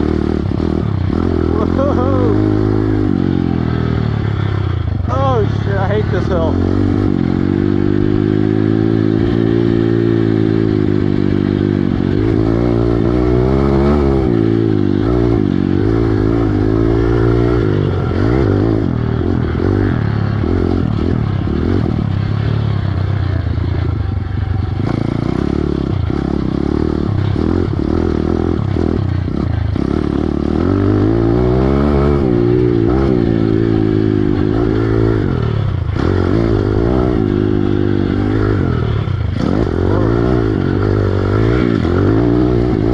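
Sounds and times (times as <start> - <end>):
motorbike engine revving: 0.0 - 42.9.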